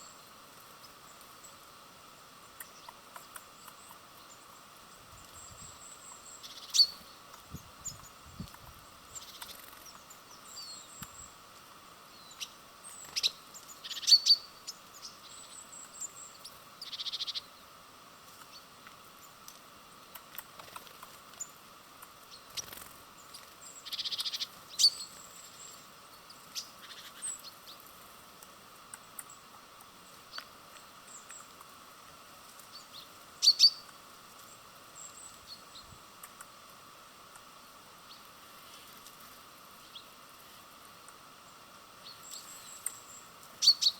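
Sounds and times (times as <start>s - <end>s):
faint steady hum: 0.0s - 43.9s
small birds chirping: 0.0s - 43.9s.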